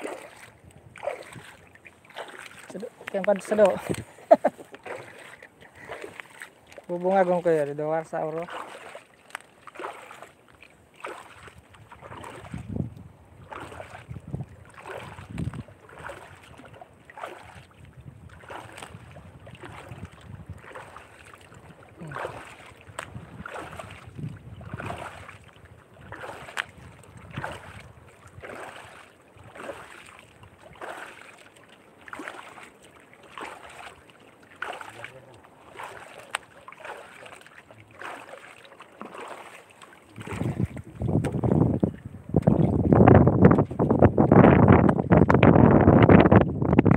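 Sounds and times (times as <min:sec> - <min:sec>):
water splashing against canoe: 0:00.0 - 0:46.9.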